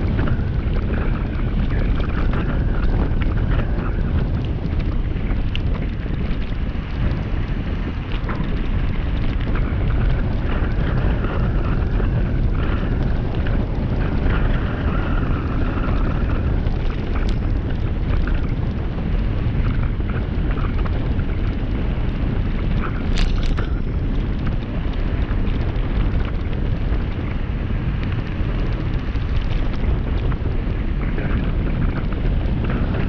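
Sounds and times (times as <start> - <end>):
small clicks and rattles: 0.0 - 33.0
tyres rumbling on gravel road: 0.0 - 33.0
wind buffeting microphone: 0.0 - 33.0.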